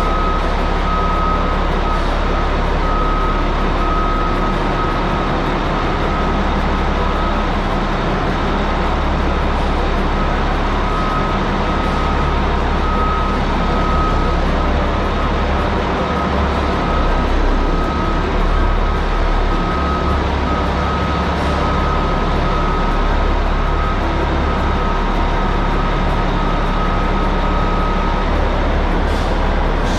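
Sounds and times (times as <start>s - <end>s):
diesel engines running: 0.0s - 29.9s.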